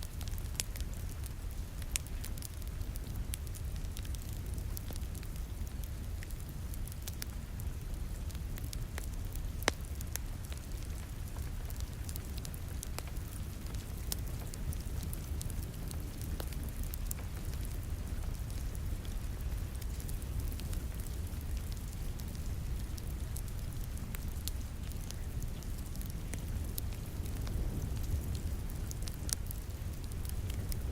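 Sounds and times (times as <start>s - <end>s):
steady rain: 0.0s - 30.9s
wood fire crackling and popping: 0.0s - 30.9s.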